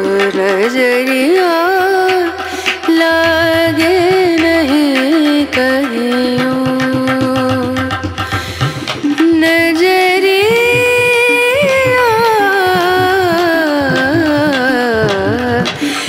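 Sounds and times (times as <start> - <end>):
repeated drum beats: 0.0 - 16.0.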